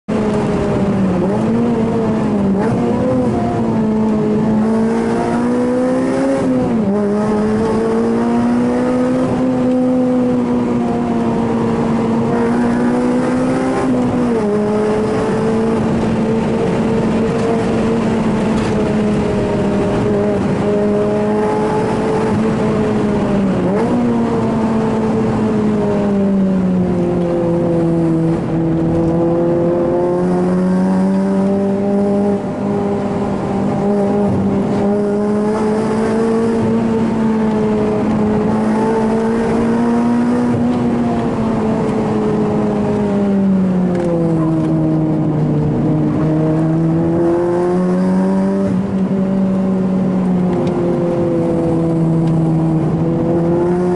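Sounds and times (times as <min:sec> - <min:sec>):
car engine revving high: 0:00.1 - 0:53.9.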